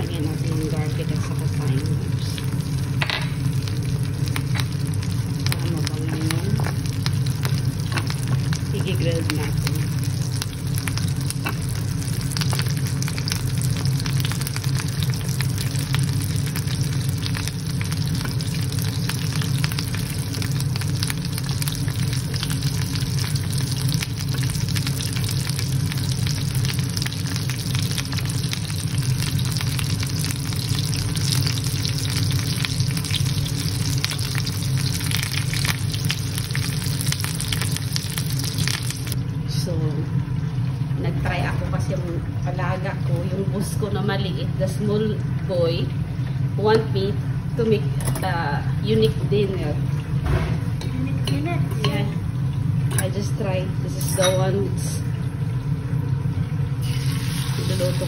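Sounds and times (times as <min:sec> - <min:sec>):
butter sizzling in a pan: 0:00.0 - 0:39.2, 0:48.7 - 0:58.0
steady low hum: 0:00.0 - 0:58.0.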